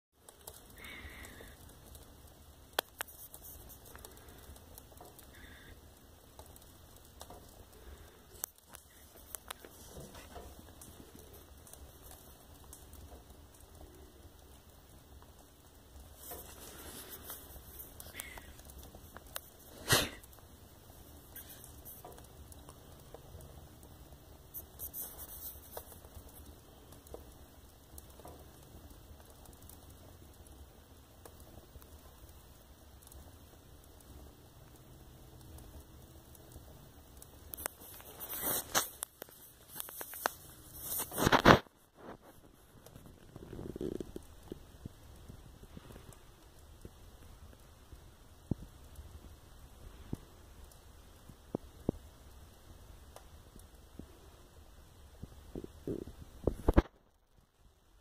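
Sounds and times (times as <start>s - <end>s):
sharp pops from fire: 0.2s - 57.1s
wood fire crackling: 0.2s - 58.0s.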